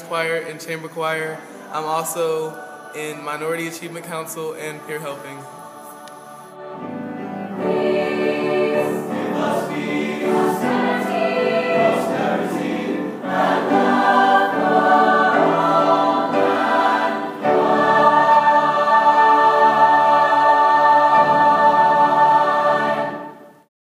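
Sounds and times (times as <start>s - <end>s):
choir singing chords: 0.0s - 23.7s.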